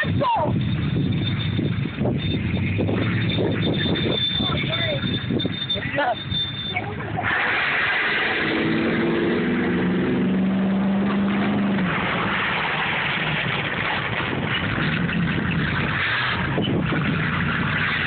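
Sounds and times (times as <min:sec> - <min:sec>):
steady rushing noise: 0:00.0 - 0:18.0
truck engine revving: 0:00.0 - 0:18.0.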